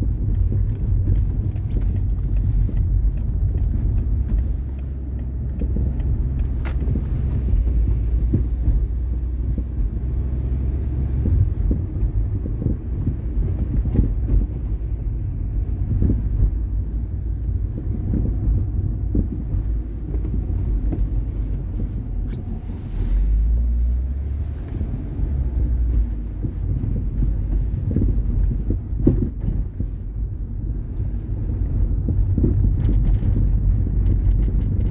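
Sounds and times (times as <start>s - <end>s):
suspension knocks and rattles: 0.0s - 22.8s, 23.5s - 34.9s
car road rumble: 0.0s - 34.9s.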